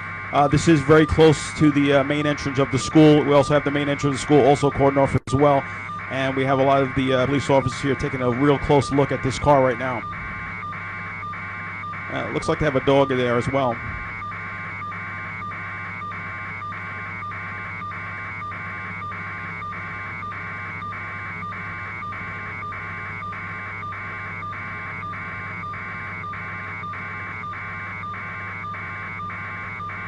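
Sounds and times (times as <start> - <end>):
helicopter cabin hum: 0.0 - 30.0.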